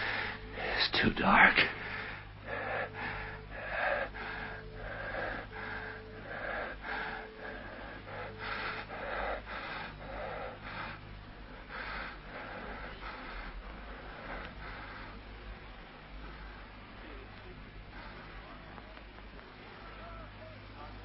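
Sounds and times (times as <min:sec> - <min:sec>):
man breathing hard and wheezing: 0:00.0 - 0:18.7.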